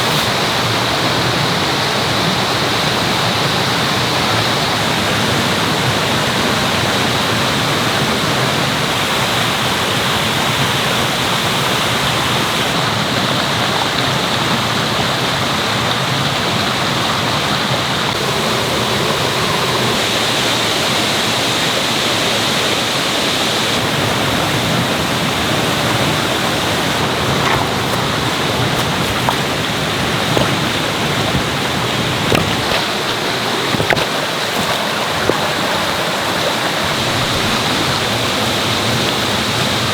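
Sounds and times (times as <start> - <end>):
stream rushing over rocks: 0.0 - 20.6, 22.3 - 39.9.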